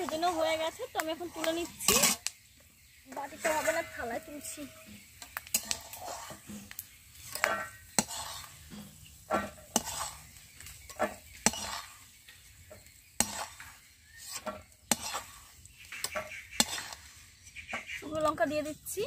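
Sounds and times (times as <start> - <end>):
metal spatula scraping a pan: 0.0 - 2.3, 3.1 - 18.9
oil sizzling: 0.0 - 19.0.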